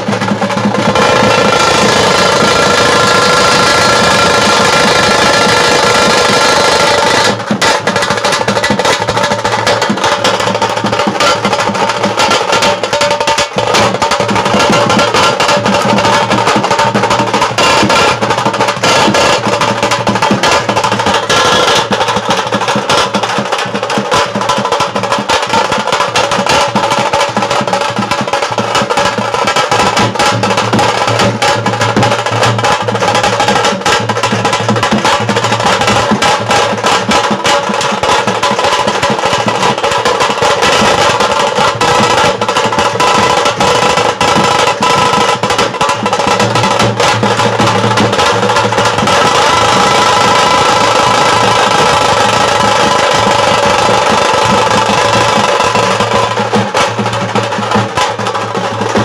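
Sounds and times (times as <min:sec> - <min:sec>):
barrel drum playing: 0:00.0 - 0:59.0
kettle drums in fast rolls: 0:00.0 - 0:59.0.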